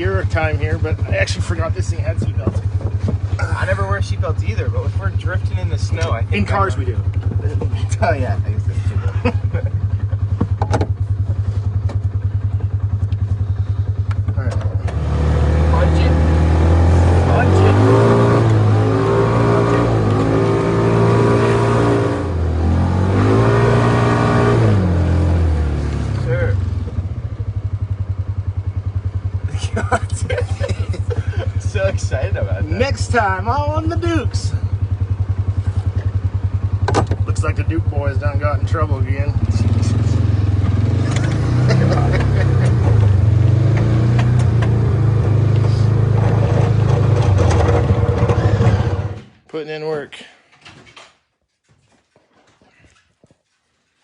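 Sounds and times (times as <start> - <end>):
utility vehicle engine revving: 0.0 - 49.4.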